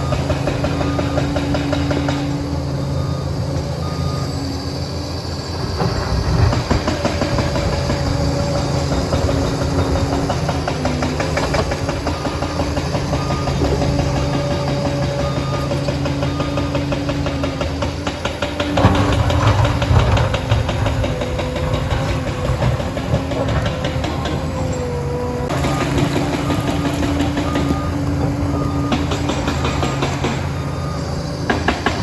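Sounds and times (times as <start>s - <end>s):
steel tracks clattering: 0.0s - 4.4s, 5.4s - 32.0s
reversing alarm beeps: 0.0s - 5.9s, 6.5s - 32.0s
dozer diesel engine under load: 0.0s - 32.0s.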